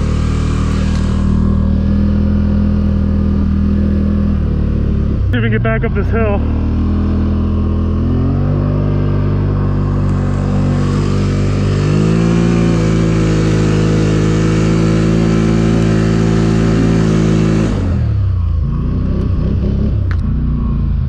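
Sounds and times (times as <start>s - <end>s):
engine revving high: 0.0s - 21.0s.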